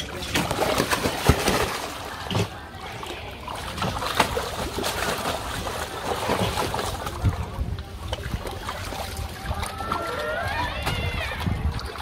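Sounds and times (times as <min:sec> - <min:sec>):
fish thrashing in water: 0:00.0 - 0:12.0
water splashing and sloshing: 0:00.0 - 0:12.0.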